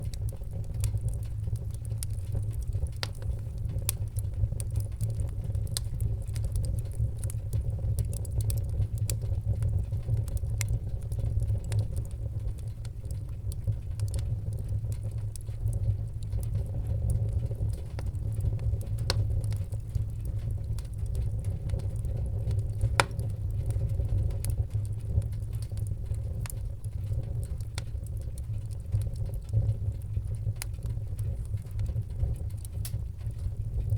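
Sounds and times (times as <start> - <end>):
fire crackling and popping: 0.0 - 33.9
fire roaring: 0.0 - 33.9.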